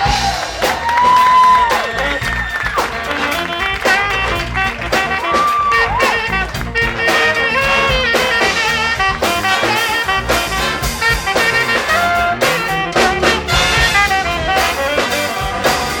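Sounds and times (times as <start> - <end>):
big band playing funk: 0.0 - 16.0
sliding bent brass notes: 0.0 - 16.0.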